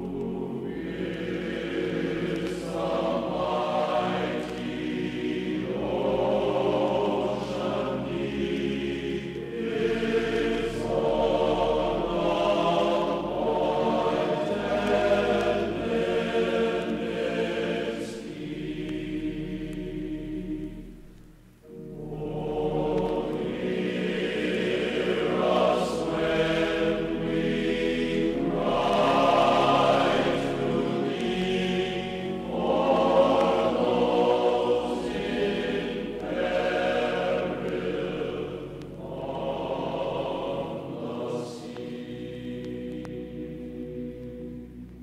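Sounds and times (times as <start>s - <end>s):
choir singing: 0.0s - 45.0s.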